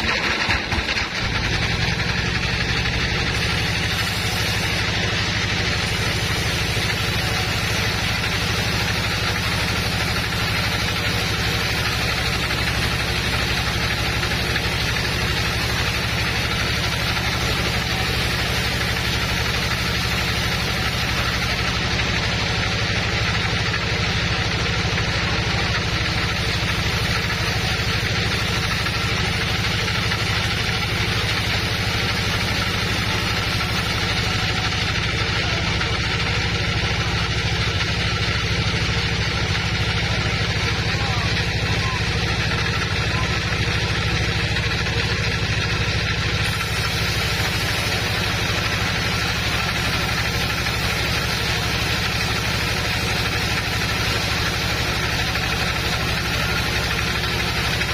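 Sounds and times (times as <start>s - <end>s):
machinery hiss: 0.0s - 41.6s, 46.2s - 57.9s
low motor drone: 0.0s - 57.9s.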